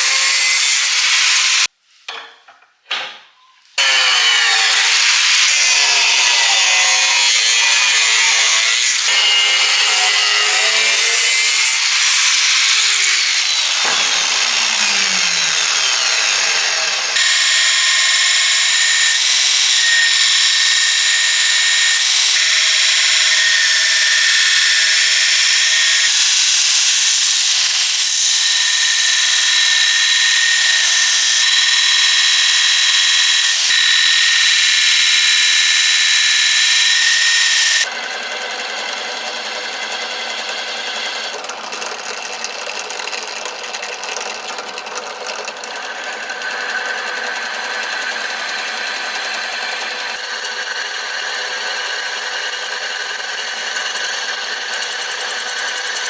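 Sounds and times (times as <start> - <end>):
electric power tools whining: 3.8 - 27.0, 28.4 - 42.9, 45.7 - 56.0.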